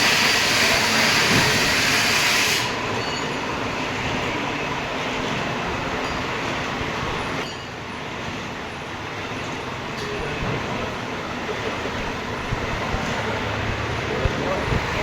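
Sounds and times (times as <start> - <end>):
lathe rumble and hiss: 0.0 - 15.0.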